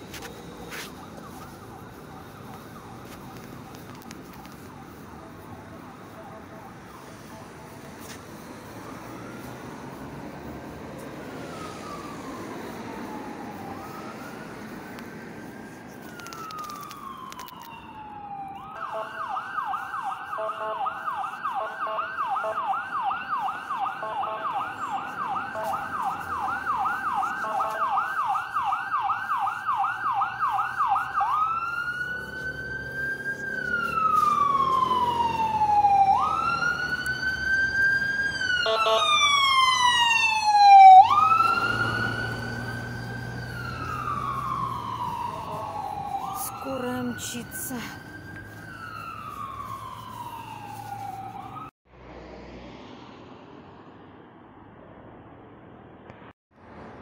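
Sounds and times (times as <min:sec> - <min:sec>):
emergency vehicle siren: 0:00.0 - 0:54.1.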